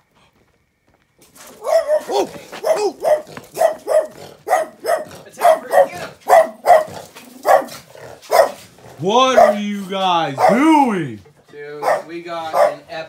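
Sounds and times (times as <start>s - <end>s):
dog barking: 1.5s - 10.9s, 11.8s - 13.0s.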